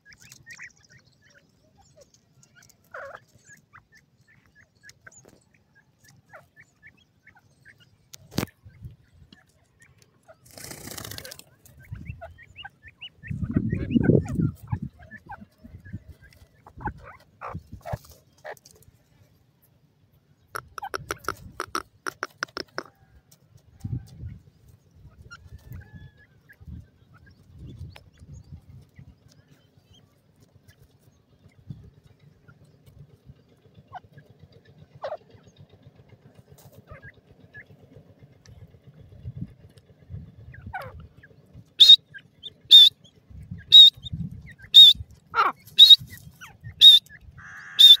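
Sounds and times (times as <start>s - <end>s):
chick peeping: 0.0s - 18.9s, 20.4s - 23.0s, 23.6s - 34.3s, 36.5s - 37.8s, 39.7s - 48.0s
soft chick chirps: 0.0s - 19.4s, 20.4s - 34.3s, 39.7s - 48.0s.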